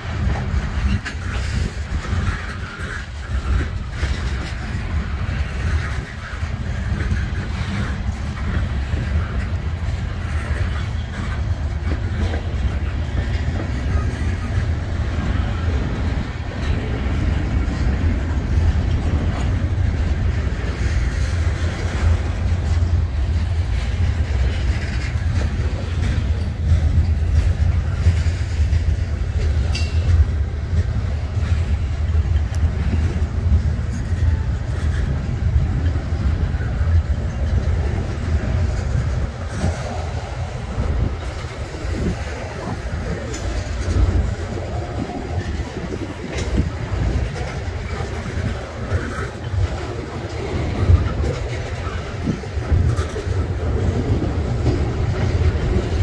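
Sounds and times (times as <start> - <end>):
freight train rumbling past: 0.0 - 56.0
wheels clicking on rails: 0.0 - 56.0.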